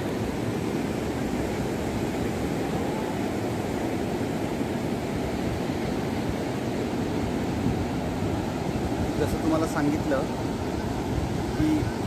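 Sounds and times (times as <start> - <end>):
sea surf breaking on shore: 0.0 - 12.0.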